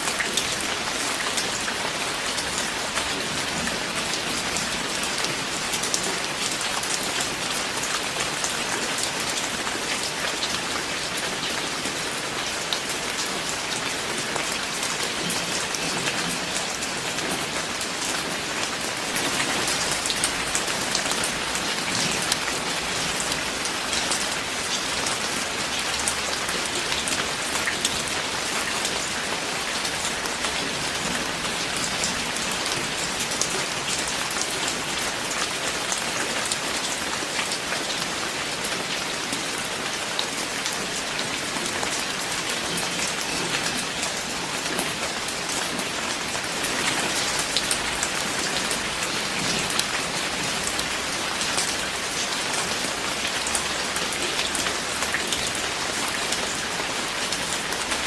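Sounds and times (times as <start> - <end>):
heavy rain patter: 0.0 - 58.0.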